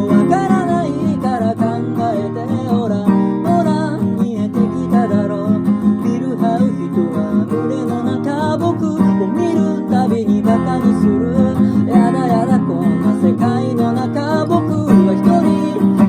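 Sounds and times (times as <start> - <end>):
acoustic guitar strumming: 0.0 - 16.0
person singing: 0.0 - 16.0.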